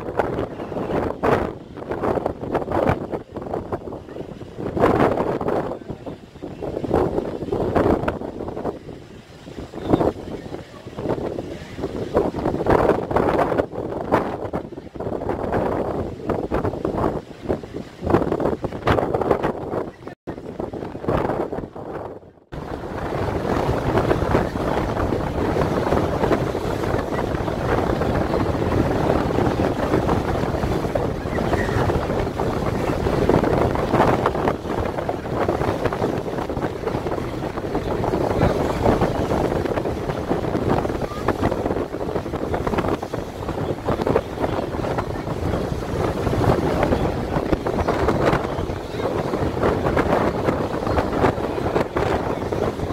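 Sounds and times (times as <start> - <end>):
boat engine rumble: 0.0 - 52.9
water washing against boat: 0.0 - 52.9
wind buffeting microphone: 0.0 - 52.9.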